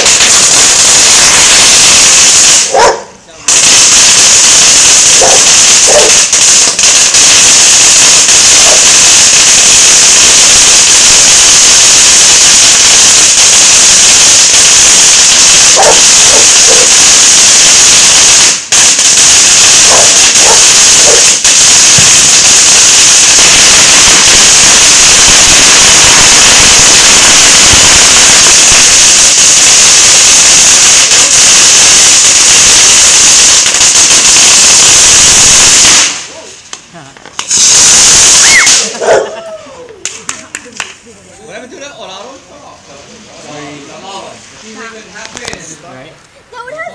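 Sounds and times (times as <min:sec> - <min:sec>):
firecrackers crackling: 0:00.0 - 0:46.9.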